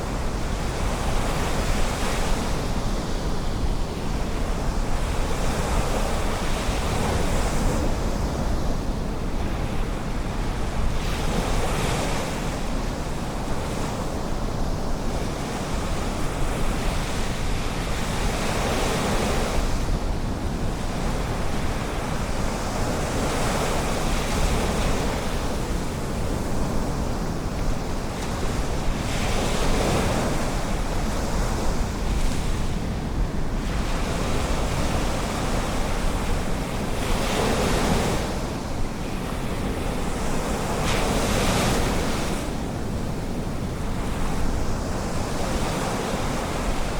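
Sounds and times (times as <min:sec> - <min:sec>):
wind rumbling on microphone: 0:00.0 - 0:46.9.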